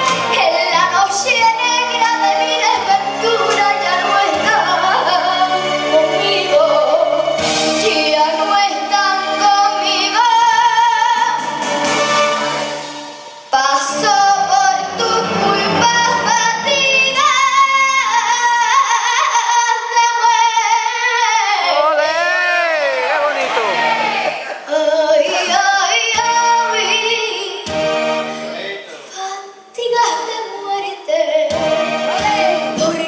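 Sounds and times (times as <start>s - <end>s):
girl singing into a microphone: 0.0s - 11.4s, 13.5s - 22.0s, 24.7s - 27.8s, 29.0s - 33.0s
instrumental accompaniment: 0.0s - 19.6s, 23.2s - 29.3s, 31.4s - 33.0s.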